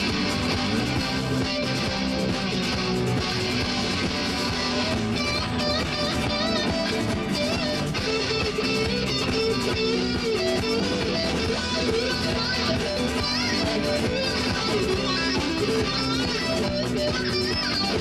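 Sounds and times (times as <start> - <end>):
bass guitar: 0.0 - 18.0
strummed guitars: 0.0 - 18.0.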